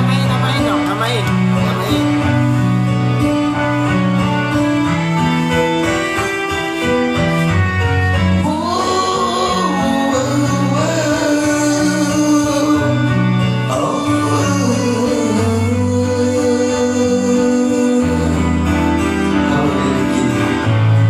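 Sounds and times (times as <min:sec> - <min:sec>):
bass notes: 0:00.0 - 0:21.0
guitar chords: 0:00.0 - 0:21.0.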